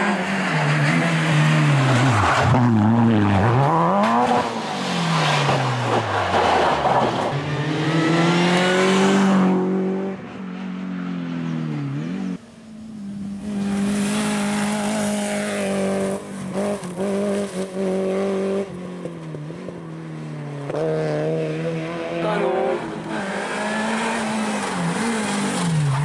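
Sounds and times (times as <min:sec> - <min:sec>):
rally car engine at high revs: 0:00.0 - 0:10.4, 0:13.3 - 0:26.0.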